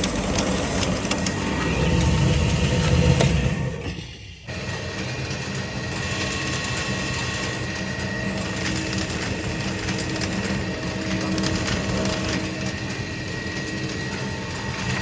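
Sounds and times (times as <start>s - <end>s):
shredding machine running: 0.0s - 15.0s.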